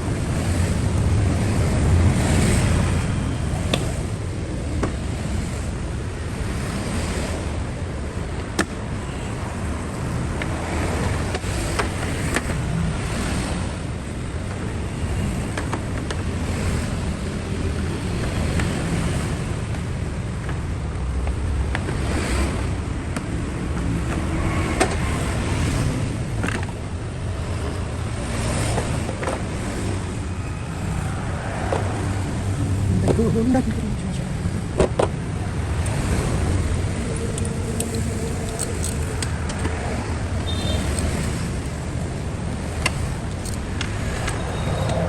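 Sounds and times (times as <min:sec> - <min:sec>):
car engine low rumble: 0:00.0 - 0:45.0.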